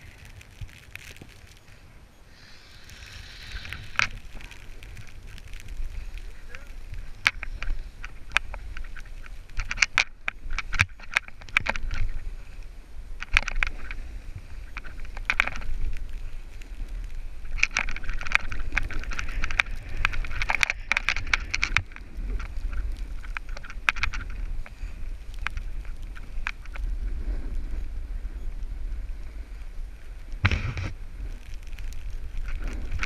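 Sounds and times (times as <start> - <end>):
snow crunching under skis: 0.0 - 33.0
wind rumble on microphone: 0.0 - 33.0.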